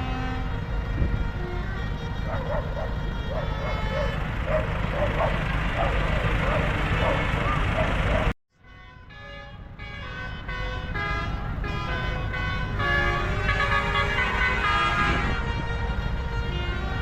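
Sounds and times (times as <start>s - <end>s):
horn-like tune: 0.0s - 8.1s, 8.7s - 17.0s
tractor engines rumbling: 0.0s - 17.0s.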